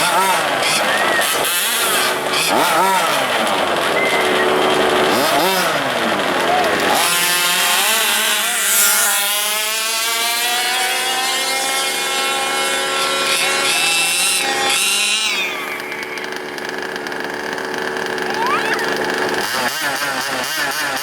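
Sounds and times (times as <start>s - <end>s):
small two-stroke engines buzzing: 0.0s - 21.0s.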